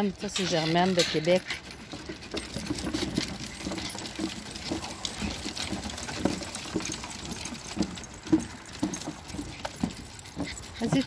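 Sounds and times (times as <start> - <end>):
footsteps on wooden boardwalk: 0.0 - 11.0
light metallic jingling: 0.0 - 11.0.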